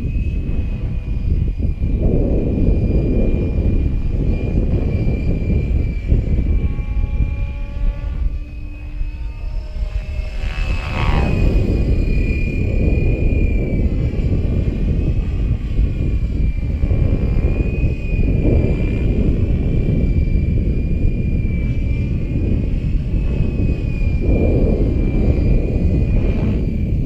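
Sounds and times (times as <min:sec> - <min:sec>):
rc helicopter rotor whine: 0:00.0 - 0:27.0
wind buffeting microphone: 0:00.0 - 0:27.0.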